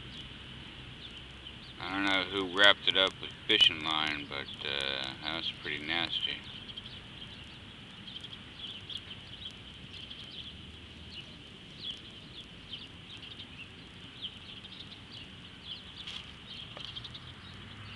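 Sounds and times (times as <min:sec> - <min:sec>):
low background rumble: 0:00.0 - 0:17.9
small birds chirping: 0:00.0 - 0:17.9.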